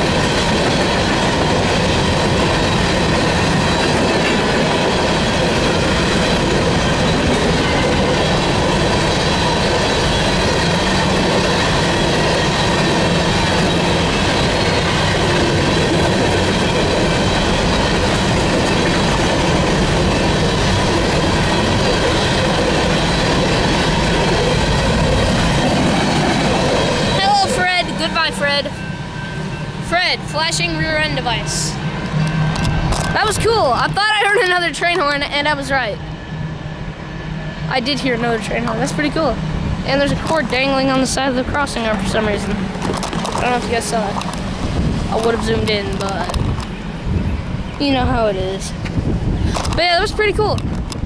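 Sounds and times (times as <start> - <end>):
freight train wheels clattering: 0.0 - 36.3, 37.6 - 51.0.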